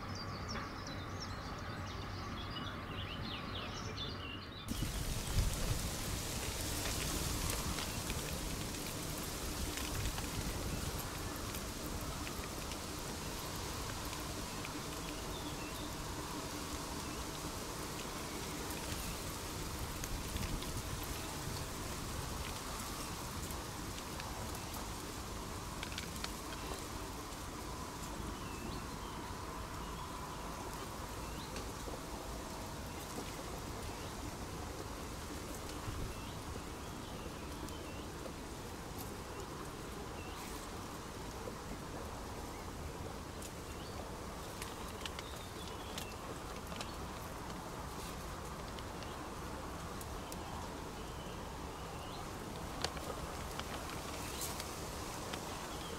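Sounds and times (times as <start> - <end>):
small birds chirping: 0.0 - 55.9
steady outdoor noise: 0.0 - 55.9.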